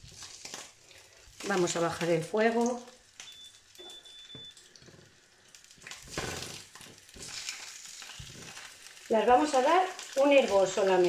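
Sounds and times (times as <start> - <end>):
sausages sizzling in a frying pan: 0.0 - 11.0.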